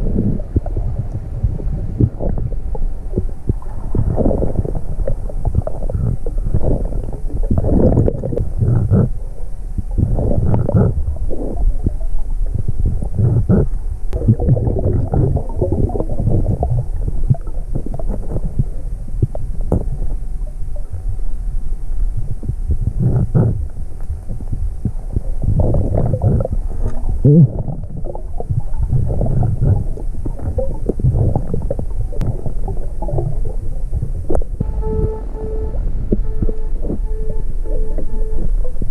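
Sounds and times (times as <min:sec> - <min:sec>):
underwater rumbling and gurgling: 0:00.0 - 0:38.9.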